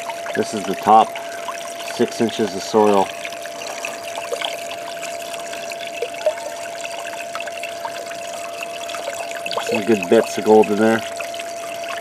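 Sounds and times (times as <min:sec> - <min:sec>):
drips and splashes: 0:00.0 - 0:12.0
steady high hum: 0:00.0 - 0:12.0.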